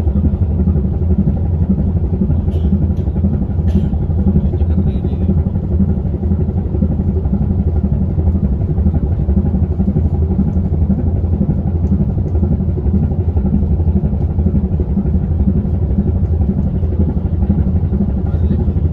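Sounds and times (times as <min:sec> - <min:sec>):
ship diesel engines rumbling: 0:00.0 - 0:18.9.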